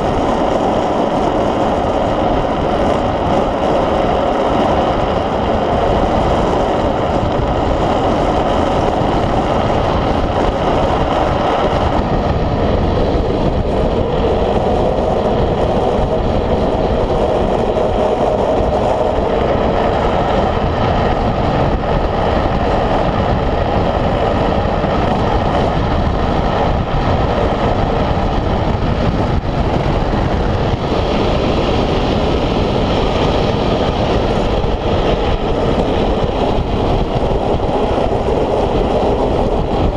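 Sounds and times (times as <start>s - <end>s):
wheels rolling on asphalt: 0.0s - 39.9s
wind rushing over camera: 0.0s - 39.9s.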